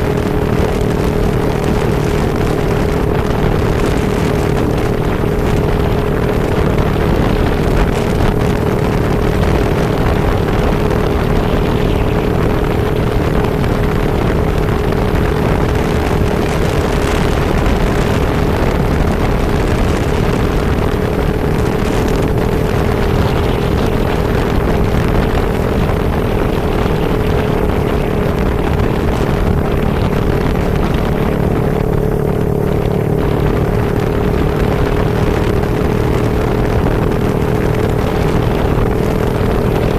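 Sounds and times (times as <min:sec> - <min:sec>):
vehicle engine hum and whine: 0:00.0 - 0:39.9
wind and rain rushing: 0:00.0 - 0:39.9.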